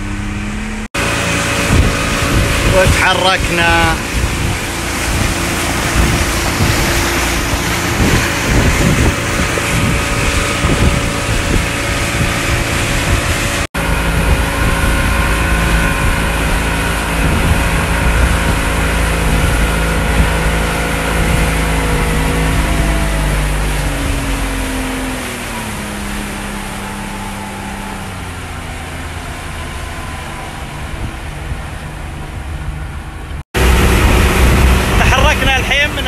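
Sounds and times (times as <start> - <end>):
boat engine running: 0.0 - 36.0
wind and water rushing: 0.0 - 36.0.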